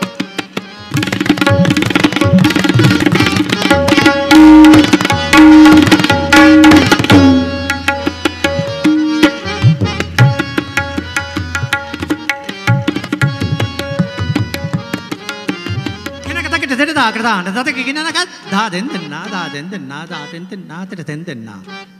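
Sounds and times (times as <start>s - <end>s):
tabla playing: 0.0s - 21.0s.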